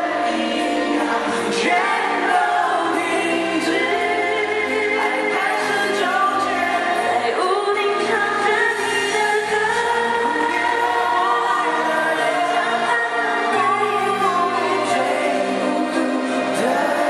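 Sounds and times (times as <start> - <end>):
person singing: 0.0 - 17.0.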